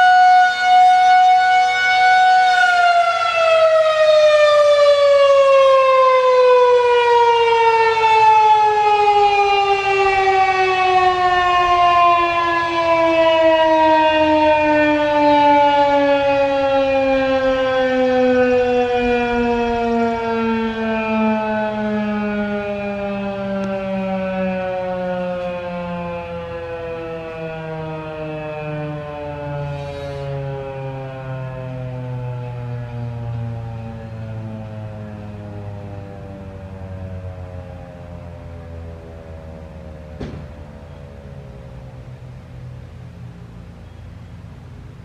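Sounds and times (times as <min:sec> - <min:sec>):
warning siren winding down: 0:00.0 - 0:45.0.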